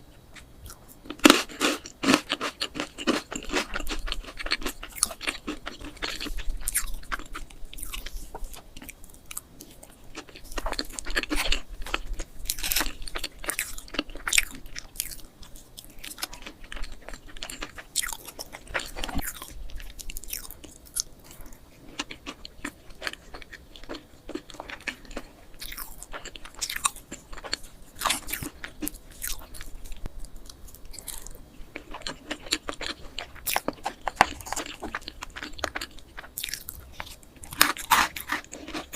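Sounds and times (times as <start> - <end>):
person chewing and biting cake: 0.2 - 38.9.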